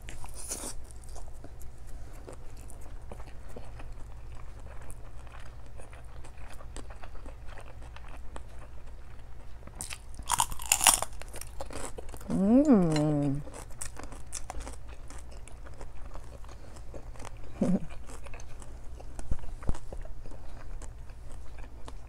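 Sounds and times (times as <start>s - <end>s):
person chewing: 0.0s - 22.0s.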